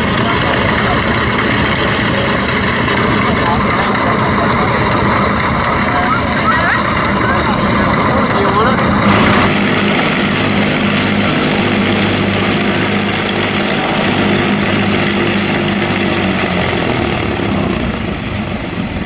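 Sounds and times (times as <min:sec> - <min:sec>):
propeller aircraft engine running: 0:00.0 - 0:19.0.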